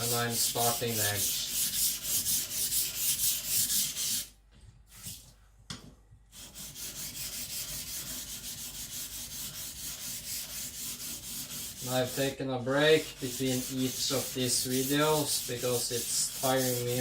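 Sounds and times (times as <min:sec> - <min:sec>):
knife rubbing on whetstone: 0:00.0 - 0:04.3, 0:06.4 - 0:12.3, 0:12.9 - 0:17.0.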